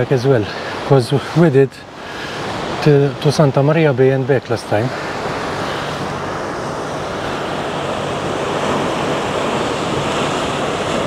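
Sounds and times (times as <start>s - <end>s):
sea waves on rocks: 0.0s - 11.0s.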